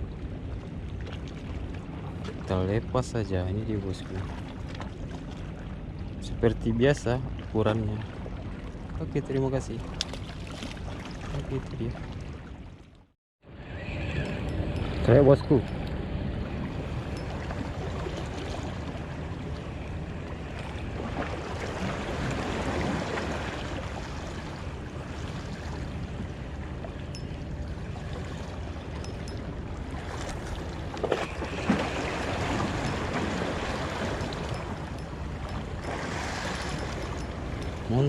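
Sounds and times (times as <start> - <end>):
sea water washing: 0.0 - 12.8, 13.6 - 38.0
low steady hum: 0.0 - 38.0
wind: 0.0 - 38.0.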